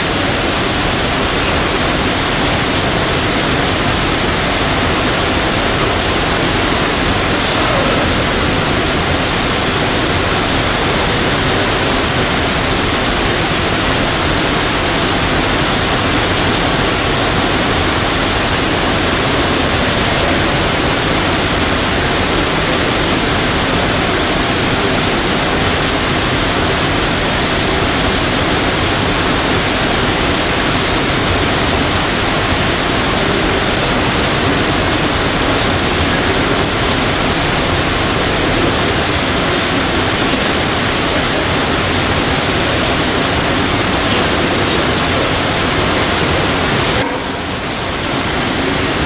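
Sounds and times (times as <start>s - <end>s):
loud rushing hiss: 0.0s - 49.0s.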